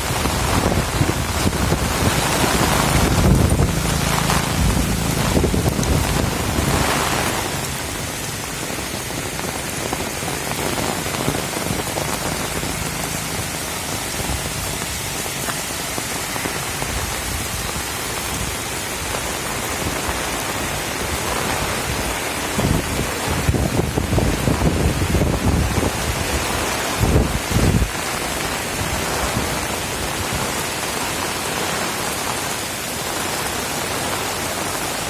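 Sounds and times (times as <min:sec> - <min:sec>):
wind buffeting microphone: 0:00.0 - 0:30.8
heavy rain: 0:00.0 - 0:35.0.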